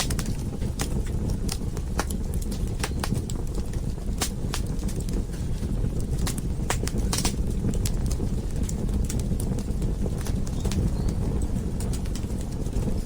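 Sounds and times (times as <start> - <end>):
burning logs crackling and popping: 0.0 - 13.0
fire flame rumble: 0.0 - 13.0.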